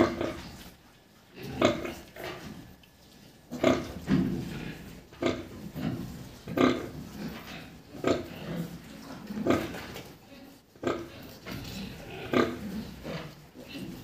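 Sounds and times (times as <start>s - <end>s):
pigs grunting softly: 0.0s - 14.0s.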